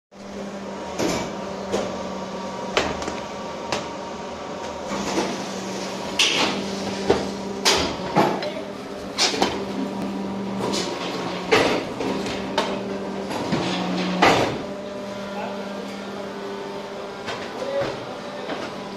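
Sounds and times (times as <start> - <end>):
mixer motor hum: 0.2 - 18.9.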